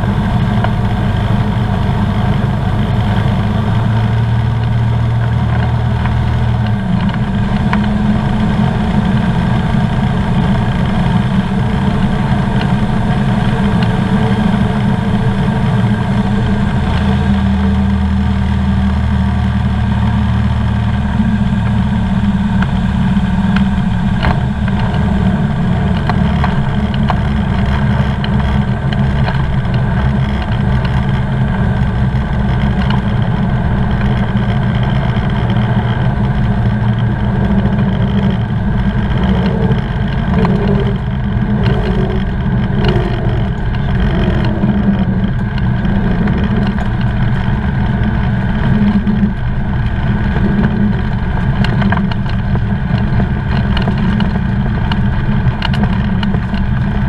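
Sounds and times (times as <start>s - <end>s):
propeller engine running: 0.0s - 57.0s.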